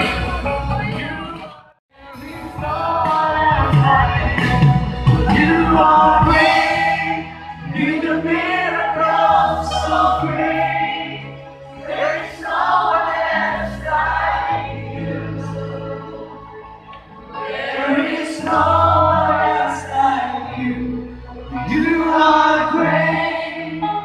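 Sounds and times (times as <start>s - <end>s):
amplified backing music: 0.0s - 24.0s.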